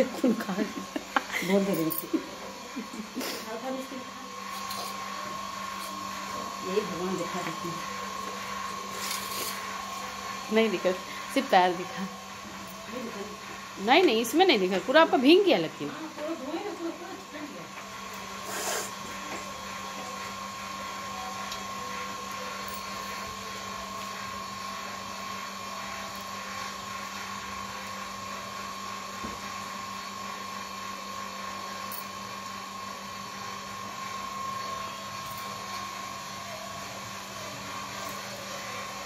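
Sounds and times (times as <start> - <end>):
machine hum and hiss: 0.0 - 39.0.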